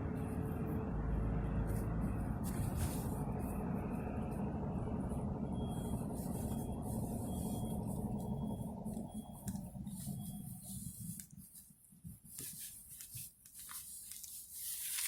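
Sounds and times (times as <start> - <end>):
car engine and road rumble: 0.0 - 12.3.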